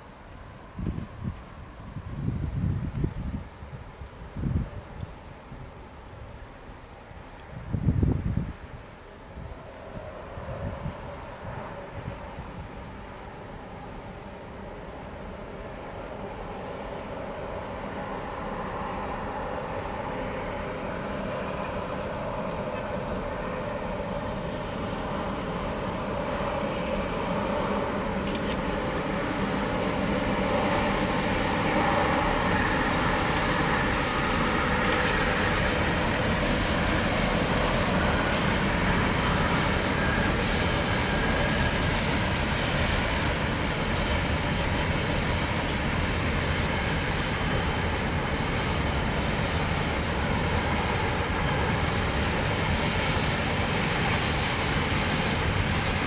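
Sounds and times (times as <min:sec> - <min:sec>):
diesel locomotive engine under load: 0:00.0 - 0:56.0.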